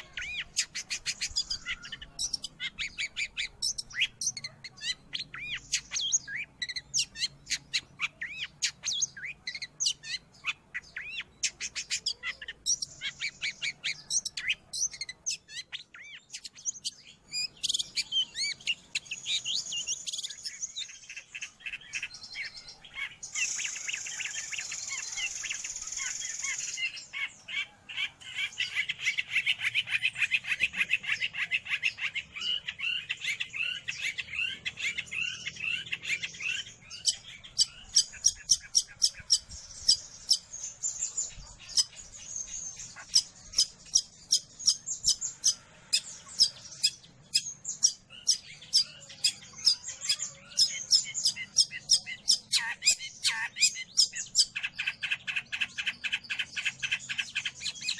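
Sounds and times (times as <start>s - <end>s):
bird chattering song: 0.0s - 57.9s.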